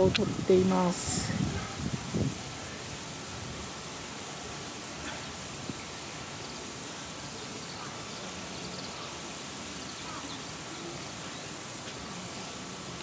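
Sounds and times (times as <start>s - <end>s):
water spray falling into pool: 0.0s - 13.0s.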